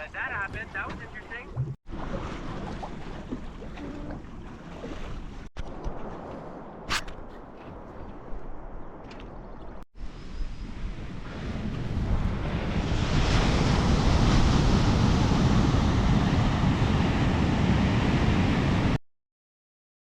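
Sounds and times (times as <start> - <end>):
wind and water rushing: 0.0 - 19.0.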